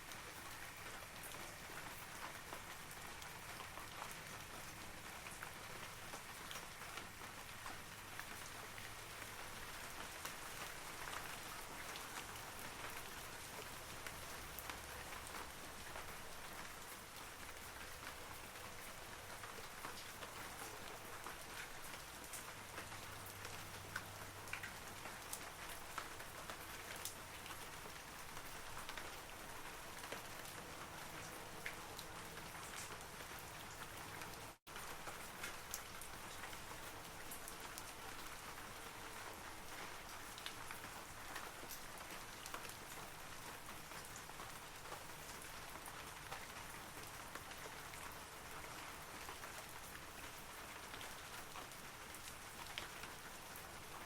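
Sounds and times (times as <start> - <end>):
rain falling on trees: 0.0 - 54.0.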